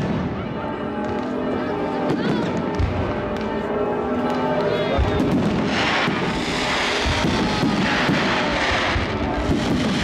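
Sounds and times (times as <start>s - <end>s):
fireworks crackling and hissing: 0.0s - 10.0s
music playing: 0.0s - 10.0s.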